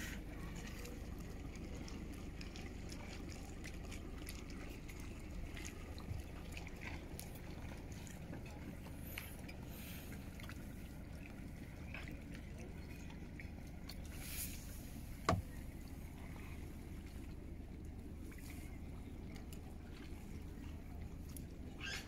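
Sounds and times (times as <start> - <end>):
boat engine rumble: 0.0 - 22.0
water lapping and splashing: 0.0 - 22.0.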